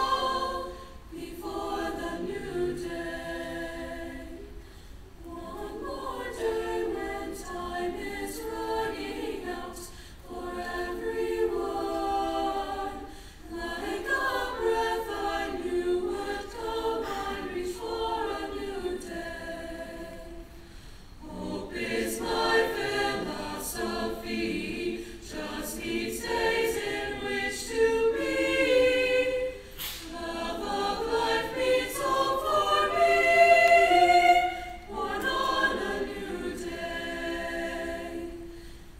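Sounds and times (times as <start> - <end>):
mixed-voice choir singing: 0.0 - 38.9.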